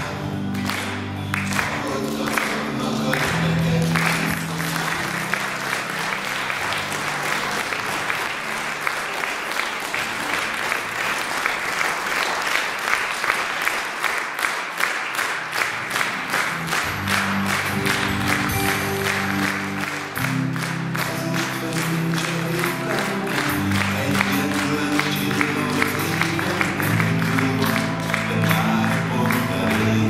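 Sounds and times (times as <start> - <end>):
audience clapping: 0.0 - 30.0.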